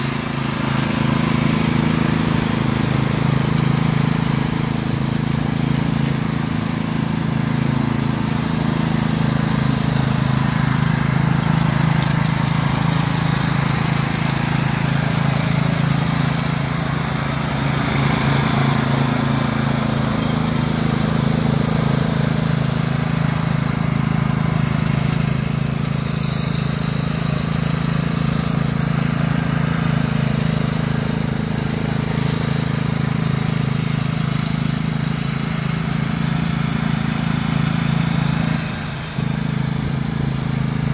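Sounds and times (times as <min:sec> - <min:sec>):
riding mower running: 0:00.0 - 0:40.9.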